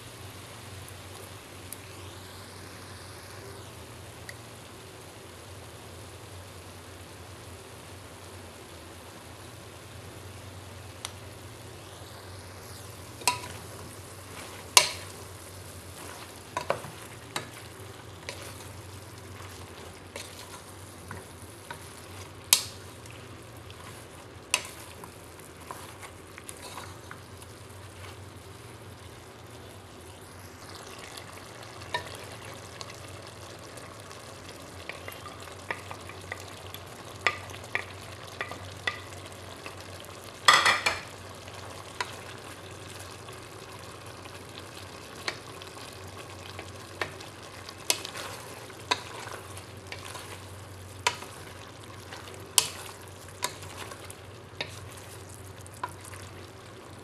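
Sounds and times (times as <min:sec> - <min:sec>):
meat sizzling in a pot: 0:00.0 - 0:57.0.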